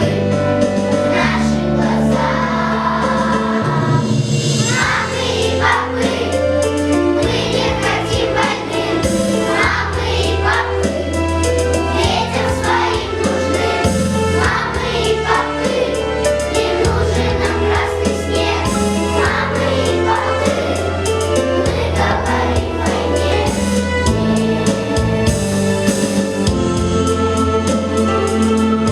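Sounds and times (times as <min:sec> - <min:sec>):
choir singing: 0:00.0 - 0:25.0
instrumental backing with beat: 0:00.0 - 0:28.9.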